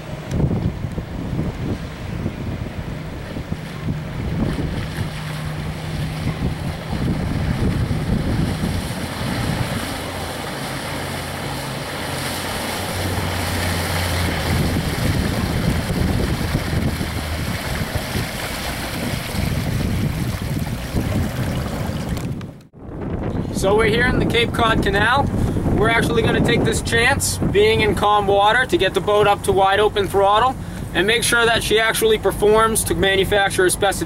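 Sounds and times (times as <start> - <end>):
wind noise on microphone: 0.0 - 11.5, 12.1 - 34.0
outboard motor humming: 0.0 - 23.4, 24.0 - 34.0.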